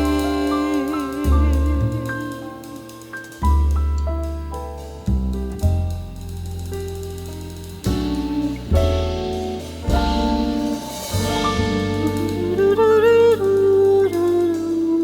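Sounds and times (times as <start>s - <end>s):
jazz band playing: 0.0s - 15.0s.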